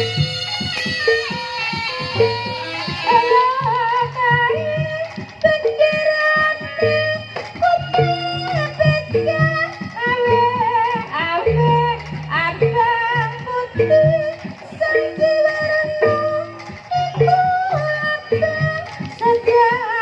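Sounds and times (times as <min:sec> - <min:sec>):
repeated low beats: 0:00.0 - 0:20.0
wavering high melody: 0:00.0 - 0:20.0.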